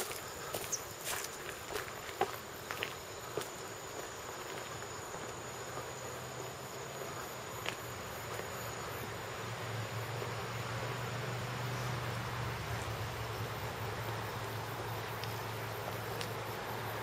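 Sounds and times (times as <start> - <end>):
insects calling: 0.0 - 17.0.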